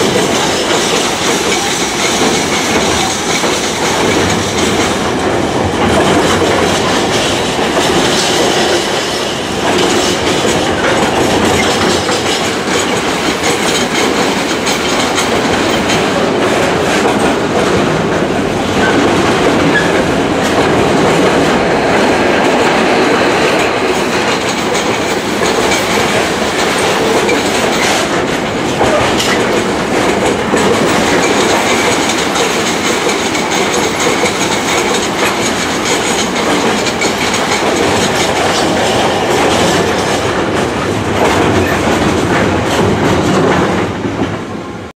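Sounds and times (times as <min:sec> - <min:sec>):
freight train passing: 0:00.0 - 0:44.9
wheels clacking on rails: 0:00.0 - 0:44.9.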